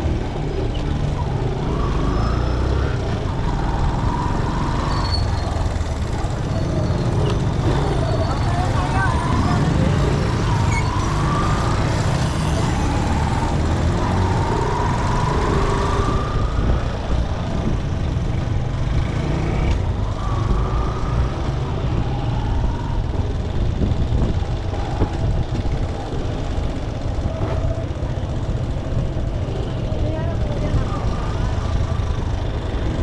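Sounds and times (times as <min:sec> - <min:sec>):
motorcycle engine: 0:00.0 - 0:33.0
road noise: 0:00.0 - 0:33.0
wind rumble: 0:00.0 - 0:33.0.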